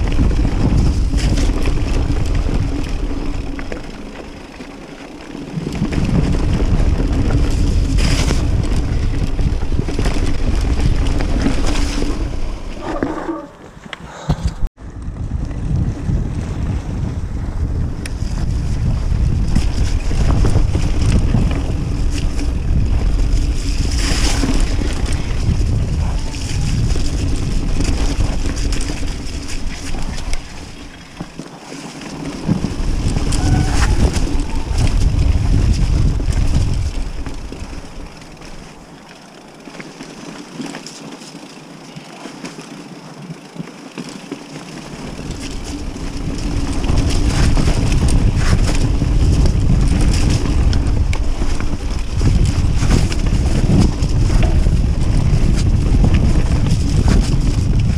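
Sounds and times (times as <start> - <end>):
wind buffeting microphone: 0.0 - 3.9, 5.4 - 31.3, 32.3 - 38.9, 44.8 - 57.9
bike rattling over trail: 0.0 - 57.9.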